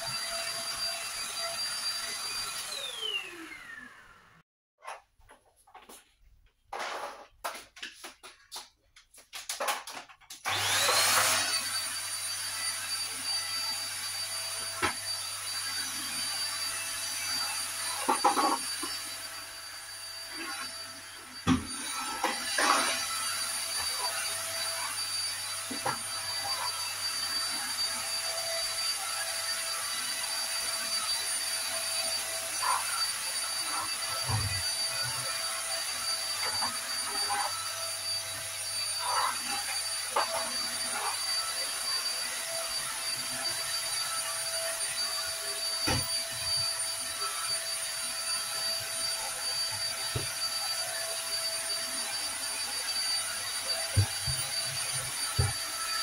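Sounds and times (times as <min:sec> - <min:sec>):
stick vacuum cleaner running: 0:00.0 - 0:04.4, 0:09.6 - 0:56.0.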